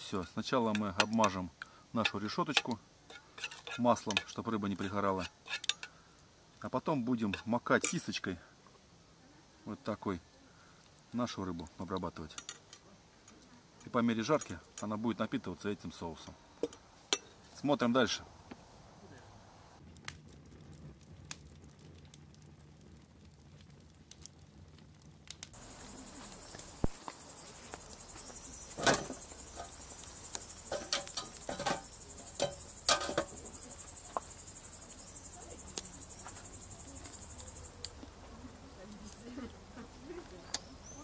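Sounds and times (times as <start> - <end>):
crickets chirping: 0.0 - 19.8, 25.5 - 41.0.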